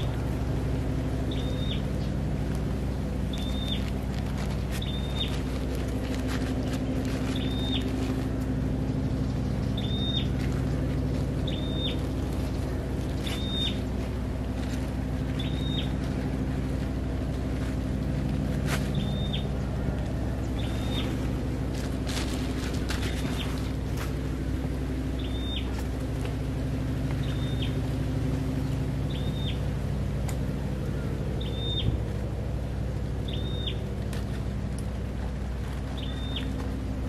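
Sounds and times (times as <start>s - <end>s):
bird calling: 0.0s - 34.5s, 35.6s - 36.9s
low mechanical drone: 0.0s - 37.0s.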